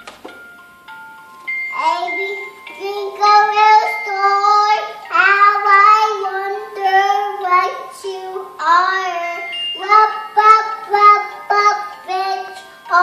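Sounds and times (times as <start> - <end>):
toddler girl singing: 1.7 - 13.0.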